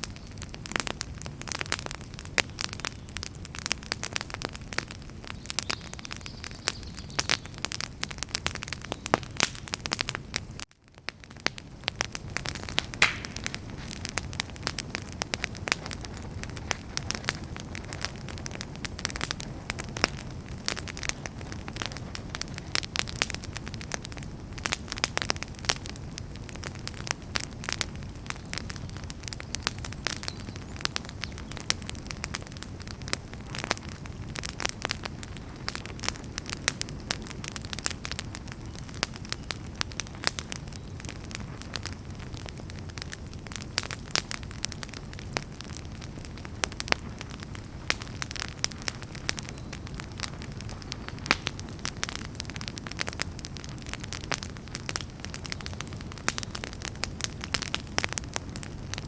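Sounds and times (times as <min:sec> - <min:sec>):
firewood crackling and popping: 0:00.0 - 0:59.0
low rumble of flames: 0:00.0 - 0:59.0.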